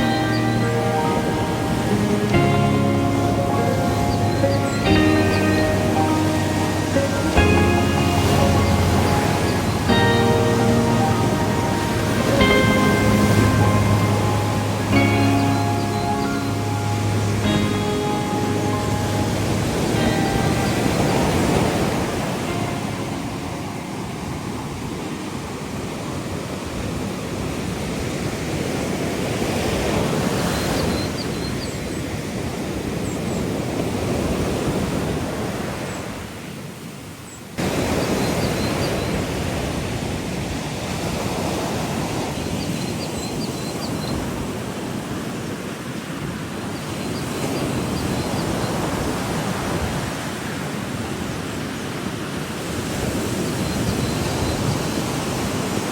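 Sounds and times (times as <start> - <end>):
ocean surf washing ashore: 0.0 - 55.9.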